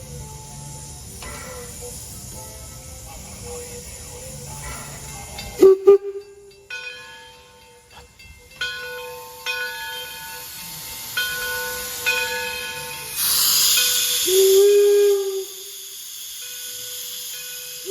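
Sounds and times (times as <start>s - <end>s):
locomotive bell ringing: 0.0s - 17.9s
loud hiss of steam: 0.0s - 17.9s.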